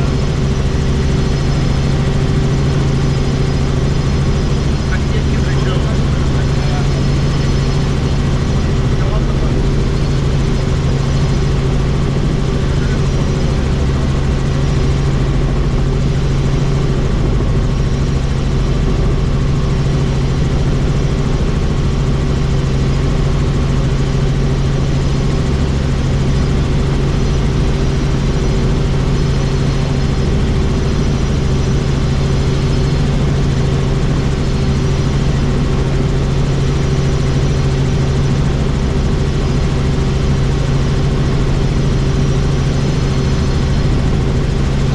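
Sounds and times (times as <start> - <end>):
helicopter engine and rotors: 0.0 - 44.9.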